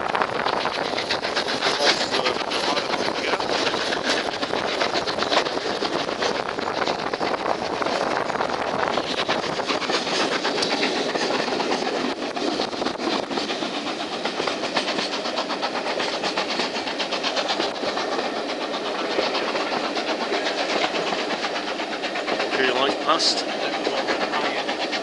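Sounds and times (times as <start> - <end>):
train rumble: 0.0 - 25.0
wheels clicking on track: 0.0 - 25.0.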